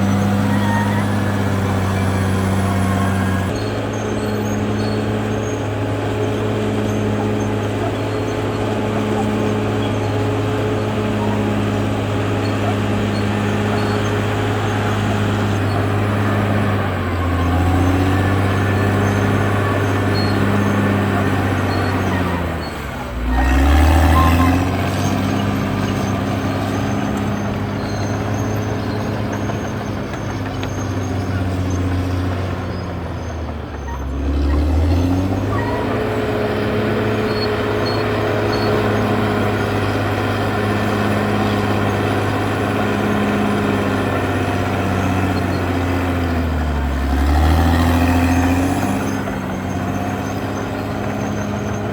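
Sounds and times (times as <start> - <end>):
bulldozer diesel engine under load: 0.0 - 51.9.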